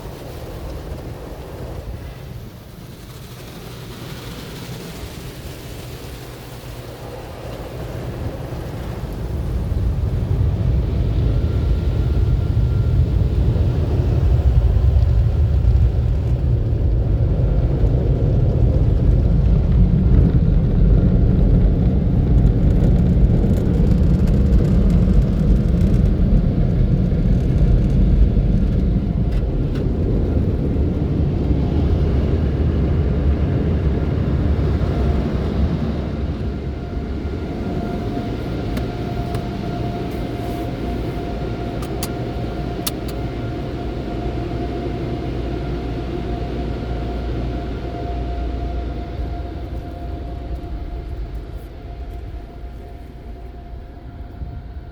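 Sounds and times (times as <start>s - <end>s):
car wash equipment rumbling: 0.0s - 54.9s.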